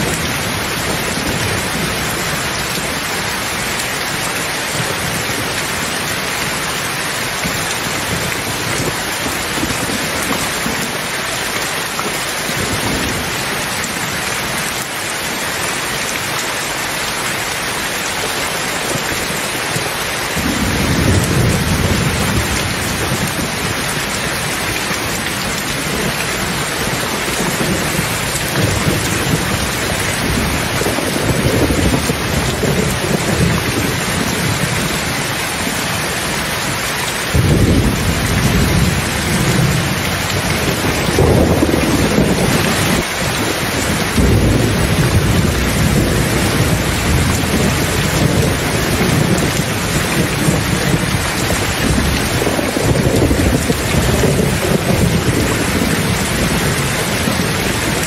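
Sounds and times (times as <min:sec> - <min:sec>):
thunder rumbling: 0:00.0 - 0:11.2, 0:20.2 - 0:58.0
rain hissing: 0:00.0 - 0:58.0.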